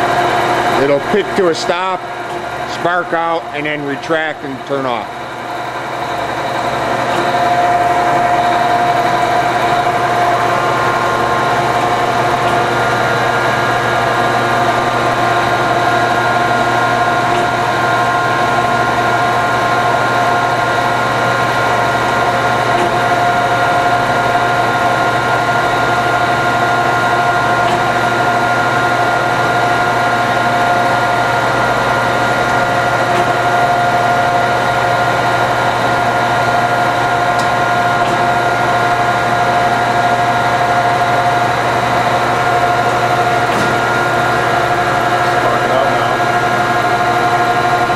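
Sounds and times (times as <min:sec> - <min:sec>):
grinder humming and whining: 0:00.0 - 0:47.9.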